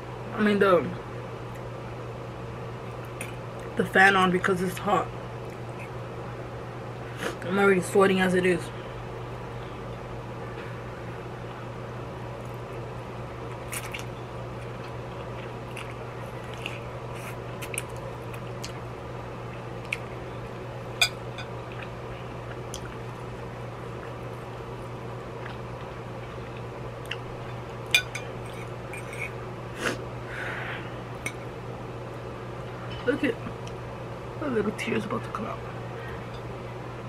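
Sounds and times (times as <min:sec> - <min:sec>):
electric fan humming: 0:00.0 - 0:37.0.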